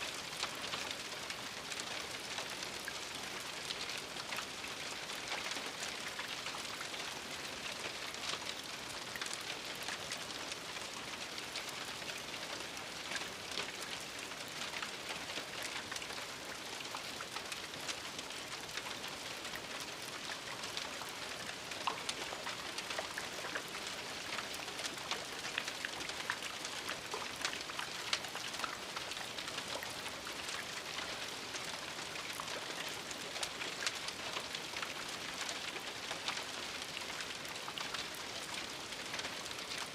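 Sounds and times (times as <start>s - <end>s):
gentle steady rain: 0.0s - 39.9s
raindrops ticking on a surface: 0.0s - 39.9s.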